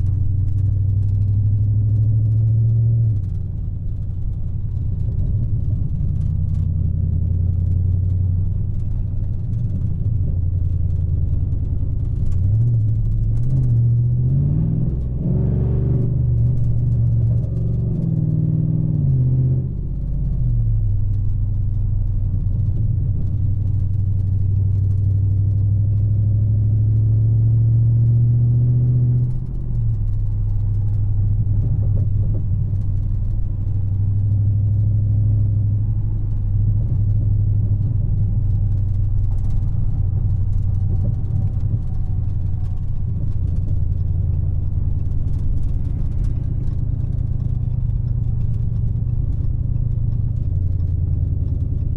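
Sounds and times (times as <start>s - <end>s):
car engine cruising: 0.0s - 51.9s.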